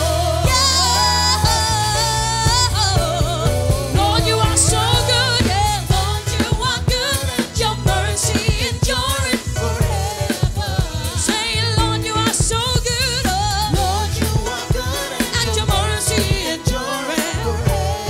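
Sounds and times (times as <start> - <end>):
bass: 0.0 - 18.0
drum beat: 0.0 - 18.0
gospel song with voices singing: 0.0 - 18.0.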